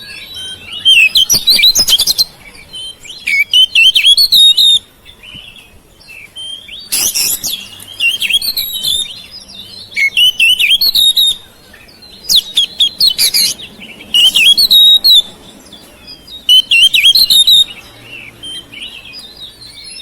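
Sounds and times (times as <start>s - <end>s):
bird singing whistles and chatter: 0.0s - 20.0s.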